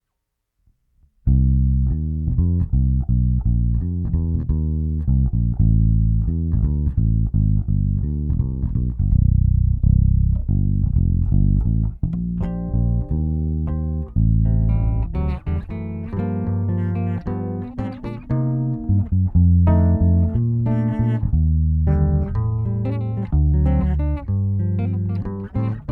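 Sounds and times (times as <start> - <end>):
plucked electric bass guitar: 1.3 - 25.9.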